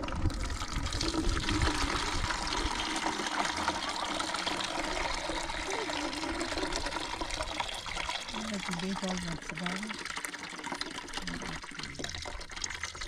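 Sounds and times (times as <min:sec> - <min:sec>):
water pouring into plastic bucket: 0:00.0 - 0:13.0.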